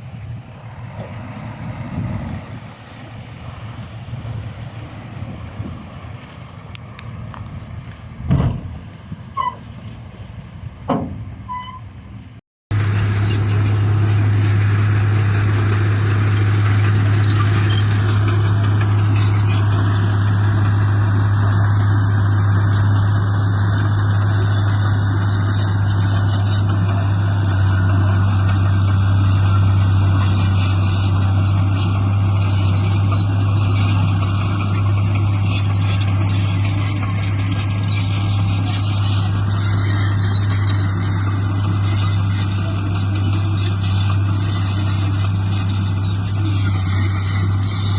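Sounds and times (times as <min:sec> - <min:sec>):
heavy diesel engine droning: 0:00.0 - 0:47.9
outdoor noise: 0:00.0 - 0:47.9.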